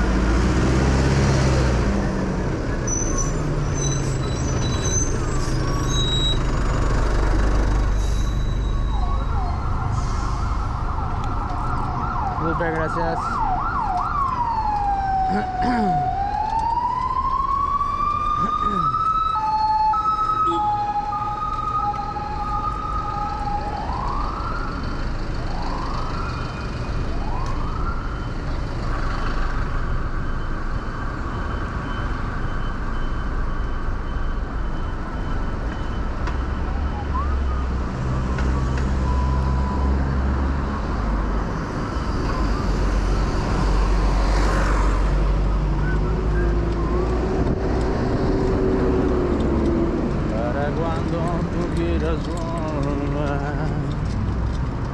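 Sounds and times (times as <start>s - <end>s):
traffic rumble: 0.0s - 54.9s
emergency vehicle siren: 3.7s - 54.2s.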